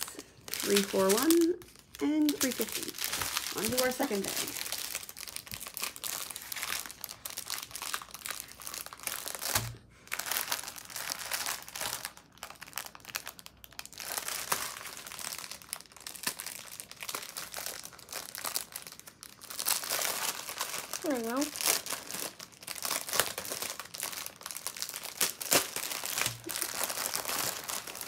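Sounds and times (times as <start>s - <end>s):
plastic packaging crinkling: 0.0s - 28.0s.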